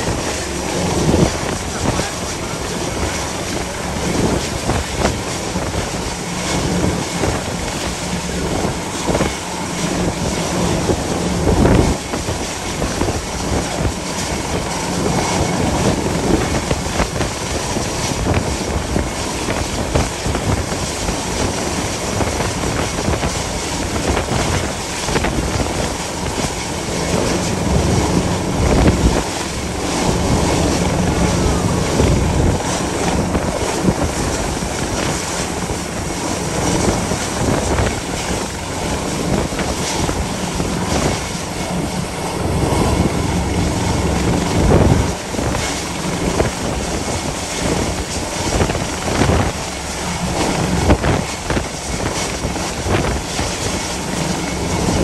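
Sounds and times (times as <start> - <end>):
helicopter rotor drone: 0.0 - 55.0
wind buffeting microphone: 0.0 - 55.0.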